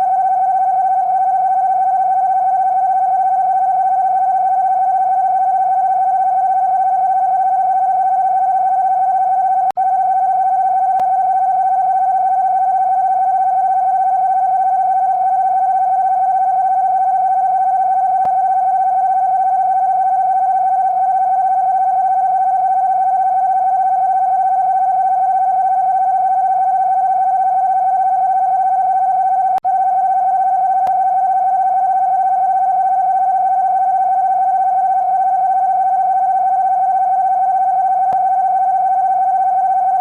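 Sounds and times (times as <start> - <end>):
steady electronic alarm tone: 0.0 - 40.0.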